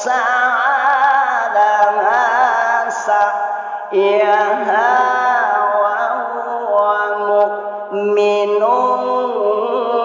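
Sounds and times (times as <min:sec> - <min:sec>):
man reciting in melodic chant: 0:00.0 - 0:10.0.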